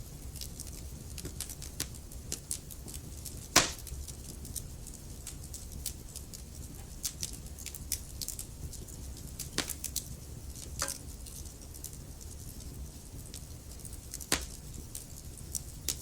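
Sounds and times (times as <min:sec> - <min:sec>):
burning logs popping: 0:00.0 - 0:16.0
low rumble of flames: 0:00.0 - 0:16.0.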